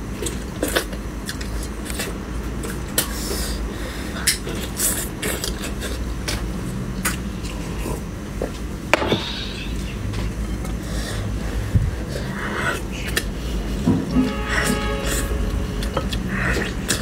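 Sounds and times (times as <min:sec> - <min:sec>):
person chewing meat: 0:00.0 - 0:08.7, 0:10.6 - 0:17.0
steady low hum: 0:00.0 - 0:17.0.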